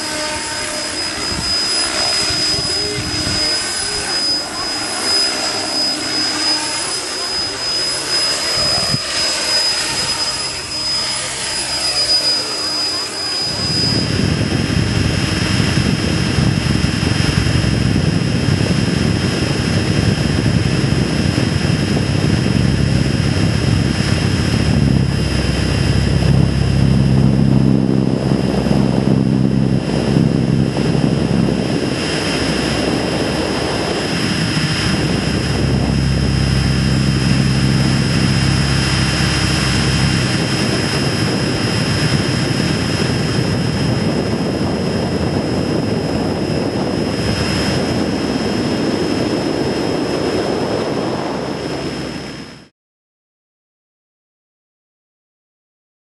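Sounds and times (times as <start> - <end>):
model aircraft motor whine: 0.0 - 52.5
rushing air: 0.0 - 52.6.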